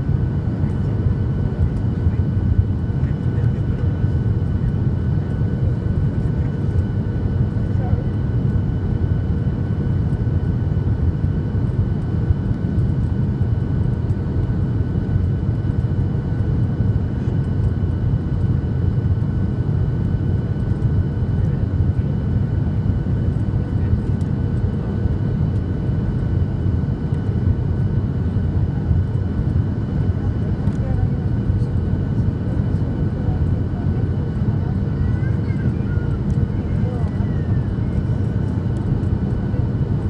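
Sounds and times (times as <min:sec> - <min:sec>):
jet engines and cabin air rumble: 0:00.0 - 0:40.0.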